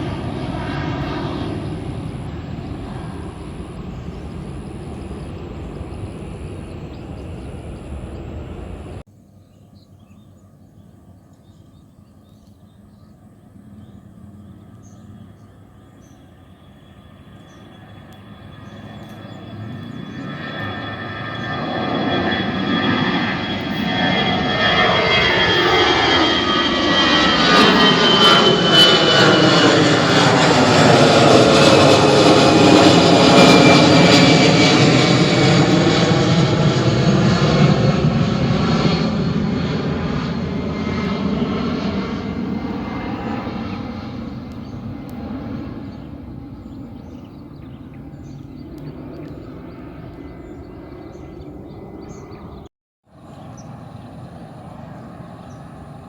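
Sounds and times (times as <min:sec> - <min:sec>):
high engine whine: 0:00.0 - 0:09.1, 0:13.3 - 0:52.6
airliner engines passing: 0:00.0 - 0:56.0.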